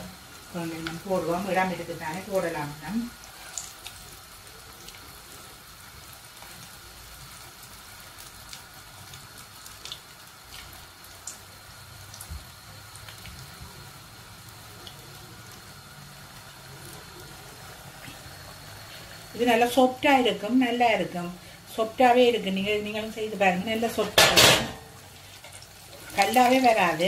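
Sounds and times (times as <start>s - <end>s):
fritters deep-frying in oil: 0.0s - 27.0s.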